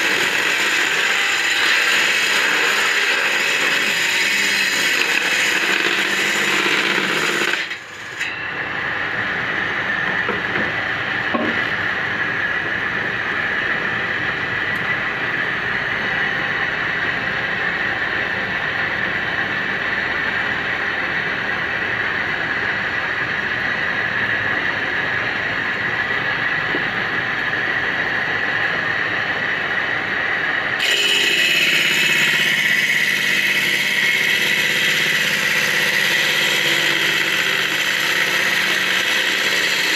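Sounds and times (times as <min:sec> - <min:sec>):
circular saw whining: 0:00.0 - 0:39.9.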